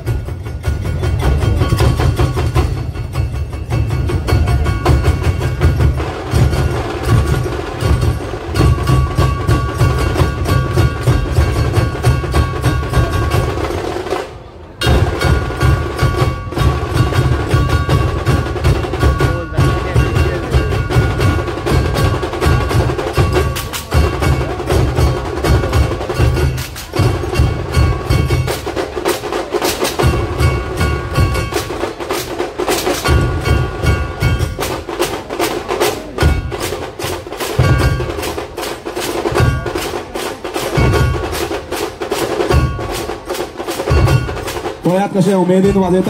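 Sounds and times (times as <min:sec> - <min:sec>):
barrel drums beaten with sticks: 0:00.0 - 0:46.0.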